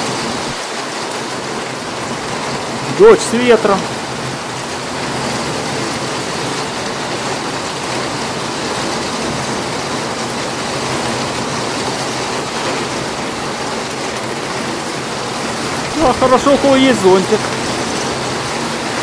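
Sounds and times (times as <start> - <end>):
heavy rain on wet paving: 0.0 - 19.0.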